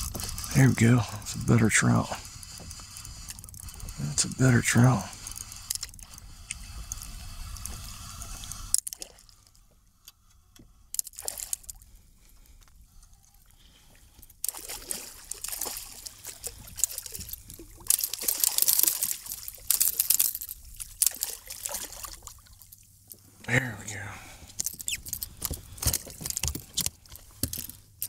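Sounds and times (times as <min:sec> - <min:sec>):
water splashing and trickling: 0:00.0 - 0:09.8, 0:10.6 - 0:28.0.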